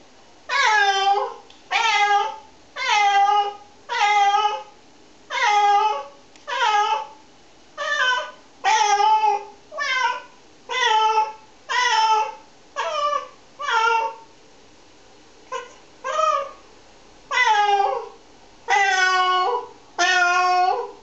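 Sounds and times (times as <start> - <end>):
cat meowing: 0.5 - 4.7, 5.3 - 7.2, 7.8 - 14.3, 15.5 - 16.6, 17.3 - 21.0.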